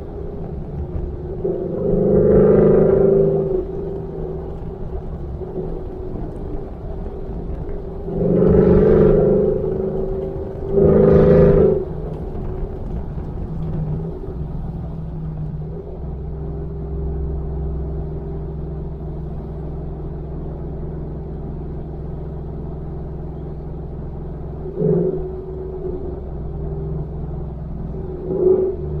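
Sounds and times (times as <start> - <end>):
truck exhaust drone: 0.0 - 29.0.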